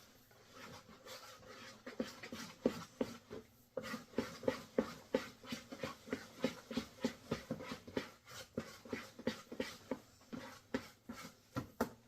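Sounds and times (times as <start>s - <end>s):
dough stirred in a bowl: 0.0s - 12.0s.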